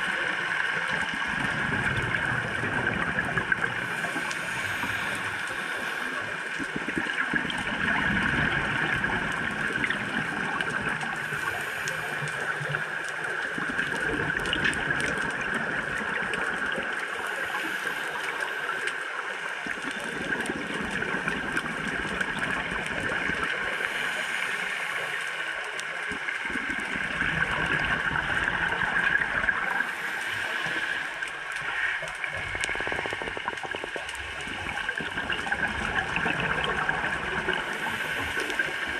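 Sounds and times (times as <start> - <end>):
constant watery hiss: 0.0 - 38.9
exhaled bubbles gurgling underwater: 0.0 - 38.9.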